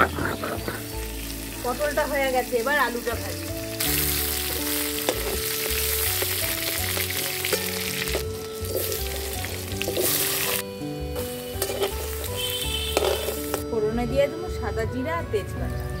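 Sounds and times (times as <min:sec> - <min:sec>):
potatoes sizzling in oil: 0:00.2 - 0:13.6.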